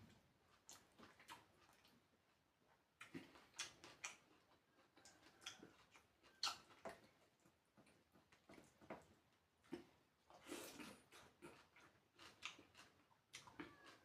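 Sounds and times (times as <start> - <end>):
chewing clicks and wet smacks: 0.5 - 14.0.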